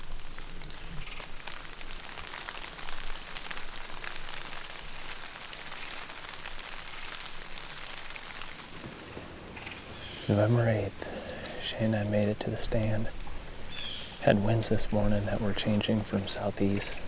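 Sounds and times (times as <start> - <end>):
raindrops ticking: 0.0 - 17.0.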